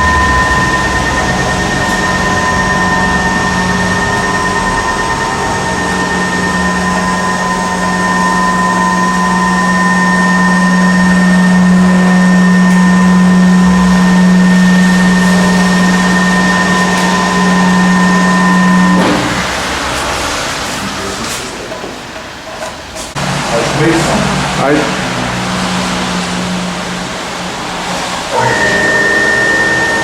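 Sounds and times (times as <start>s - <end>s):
stepper motors whining: 0.0s - 30.0s.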